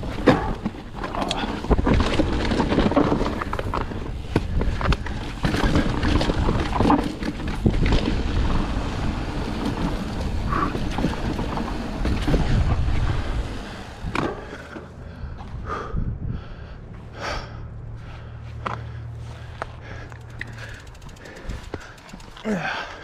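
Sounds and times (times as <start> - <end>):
bike knocks and rattles: 0.0 - 15.8, 18.5 - 23.0
bike tyre rumble on dirt: 0.0 - 23.0.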